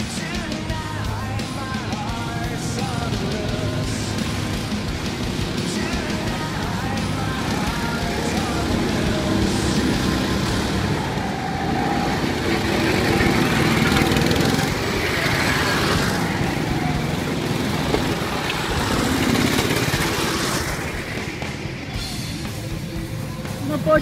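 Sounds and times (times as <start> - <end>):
go-kart engines passing: 0.0 - 24.0.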